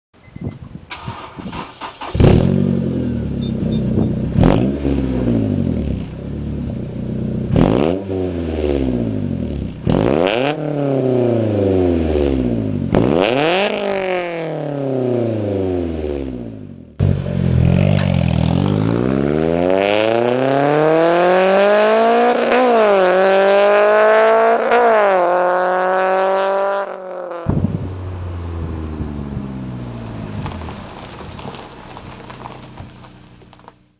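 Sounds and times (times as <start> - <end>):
car engine revving: 1.8 - 33.5.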